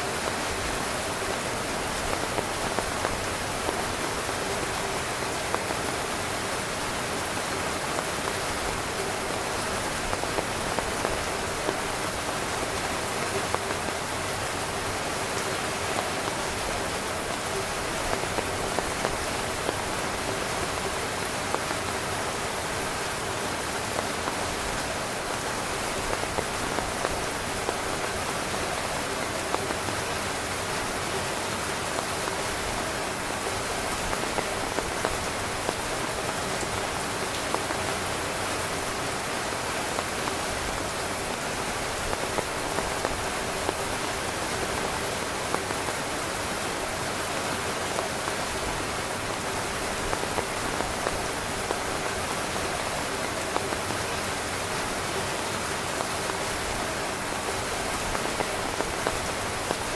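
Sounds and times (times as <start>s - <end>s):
heavy rain on tent fabric: 0.0s - 59.9s
sharp raindrop taps: 0.0s - 59.9s.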